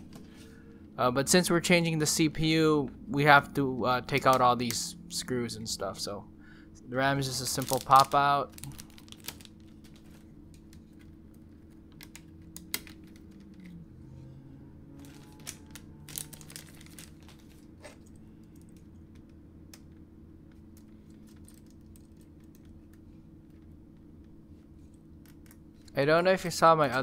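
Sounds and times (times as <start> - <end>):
faint steady low hum: 0.0 - 27.0.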